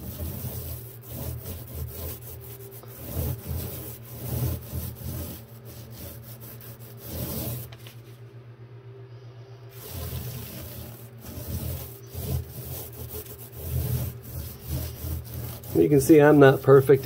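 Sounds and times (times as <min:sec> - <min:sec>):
paint roller rolling on wood: 0:00.0 - 0:08.2, 0:09.7 - 0:17.0.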